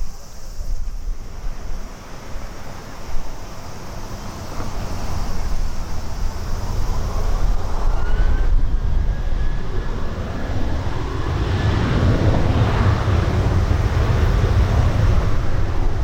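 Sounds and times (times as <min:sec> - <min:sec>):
jet engine rumble with whine: 0:00.0 - 0:16.0.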